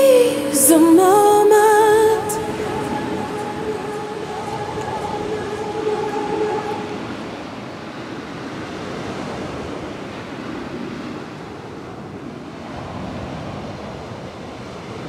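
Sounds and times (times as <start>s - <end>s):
sea surf rushing: 0.0s - 15.0s
wind on microphone: 0.0s - 15.0s.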